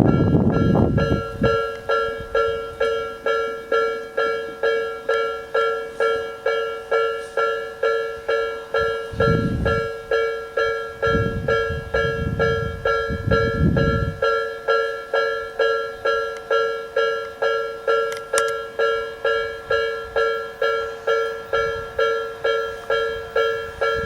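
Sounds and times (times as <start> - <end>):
level crossing warning bell: 0.0 - 24.0
passing train rumble: 0.0 - 24.0.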